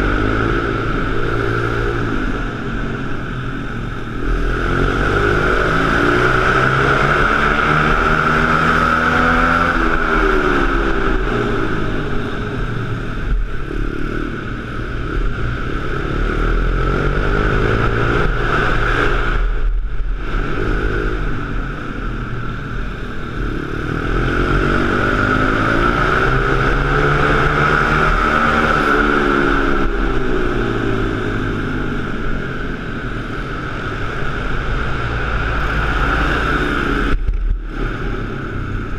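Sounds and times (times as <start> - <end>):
pit bike engine whine: 0.0 - 38.9.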